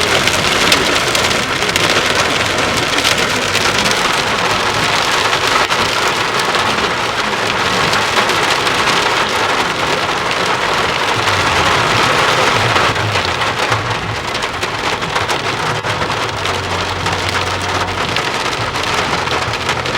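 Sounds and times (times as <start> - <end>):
rain drops on a surface: 0.0 - 19.9.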